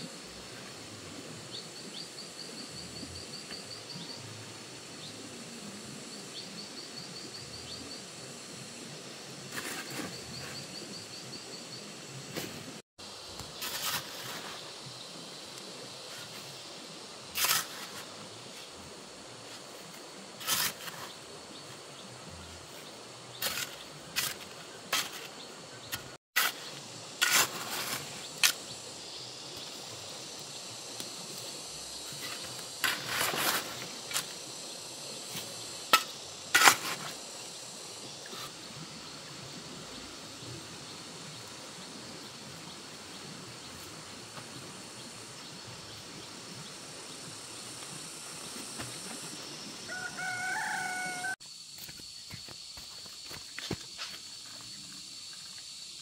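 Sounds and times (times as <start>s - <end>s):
insect hum: 0.0s - 56.0s.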